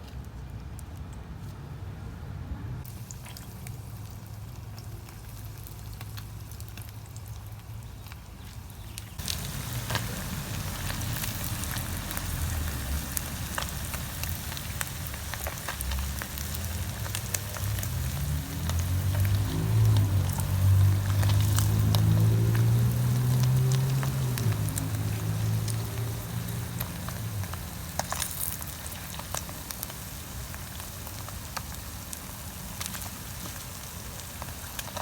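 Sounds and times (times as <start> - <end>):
fish deep-frying in hot oil: 2.8 - 35.0.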